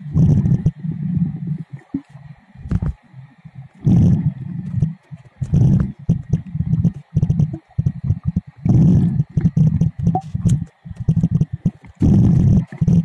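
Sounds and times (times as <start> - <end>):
muffled underwater rumbling and sloshing: 0.0 - 13.0.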